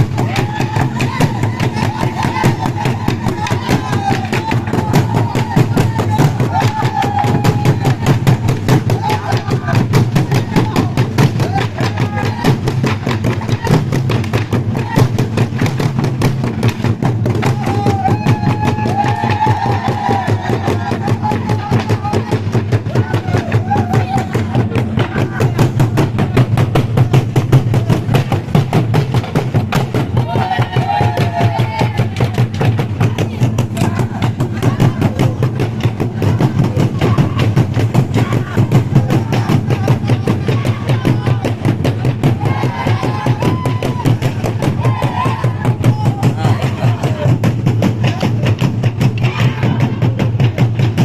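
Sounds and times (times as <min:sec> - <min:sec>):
drums beaten in fast rhythm: 0:00.0 - 0:51.0.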